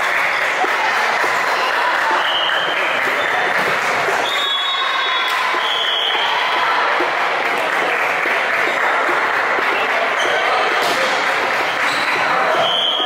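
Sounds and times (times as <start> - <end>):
echoing din of voices: 0.0 - 13.0.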